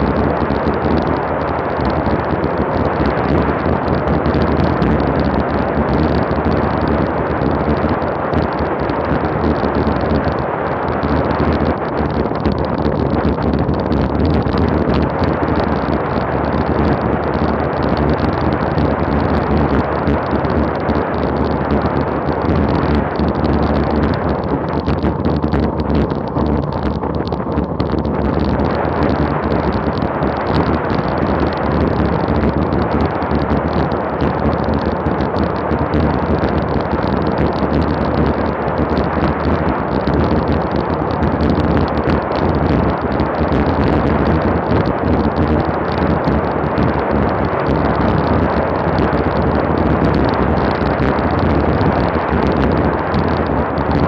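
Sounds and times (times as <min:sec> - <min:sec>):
wind buffeting on microphone: 0:00.0 - 0:54.0.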